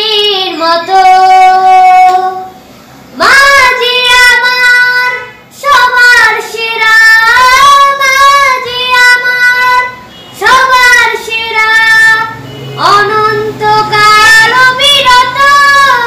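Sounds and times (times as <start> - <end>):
boy singing unaccompanied: 0.0 - 16.0.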